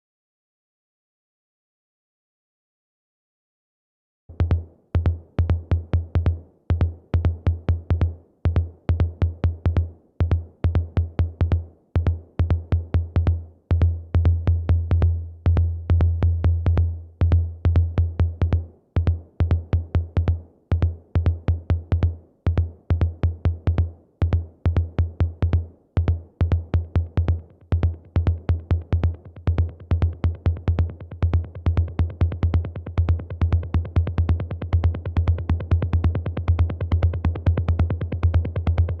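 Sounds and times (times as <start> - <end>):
drum machine techno beat: 4.3 - 39.0.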